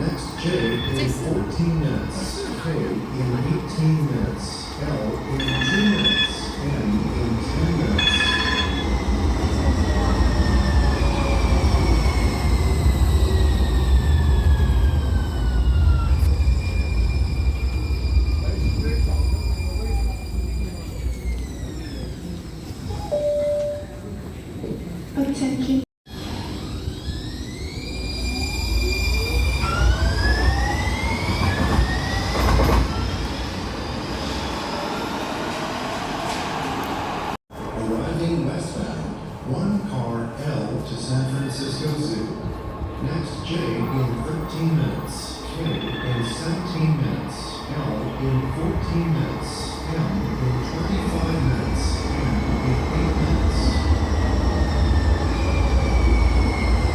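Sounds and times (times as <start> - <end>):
rumble of train wheels: 0.0 - 23.1, 23.9 - 56.9.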